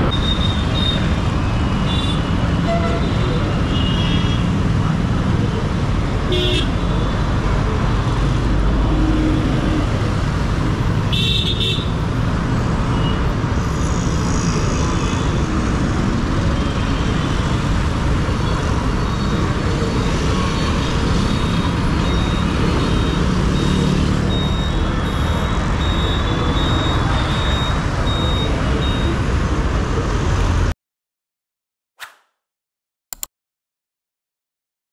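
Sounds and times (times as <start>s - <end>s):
road traffic: 0.0s - 30.8s.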